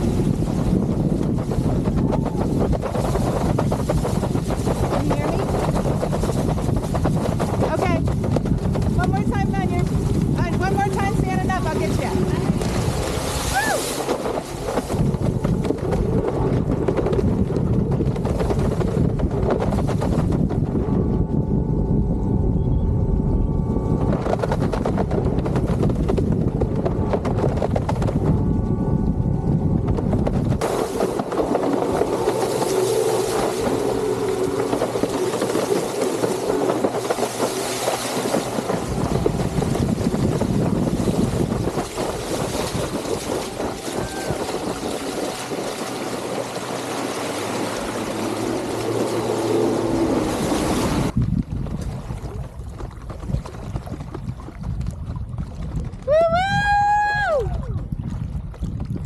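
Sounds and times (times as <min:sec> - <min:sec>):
rush of wind and spray: 0:00.0 - 0:59.0.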